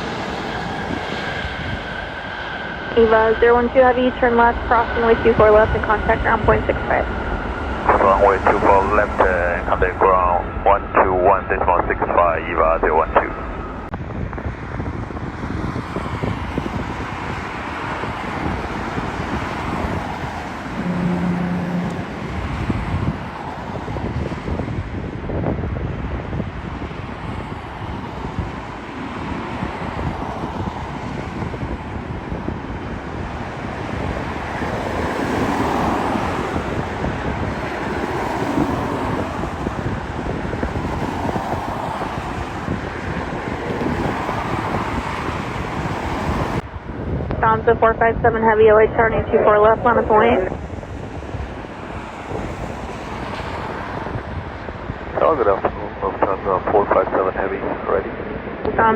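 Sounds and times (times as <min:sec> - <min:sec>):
wind buffeting microphone: 0:00.0 - 0:56.9
jet engines rumbling: 0:00.0 - 0:58.9
road traffic: 0:00.0 - 0:58.9.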